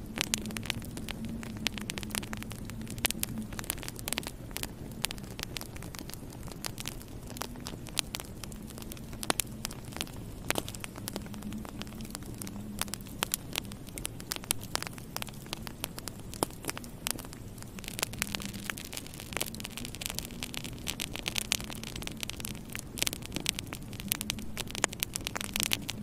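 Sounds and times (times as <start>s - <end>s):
fire pops and snaps: 0.0s - 26.0s
low rush of flames: 0.0s - 26.0s.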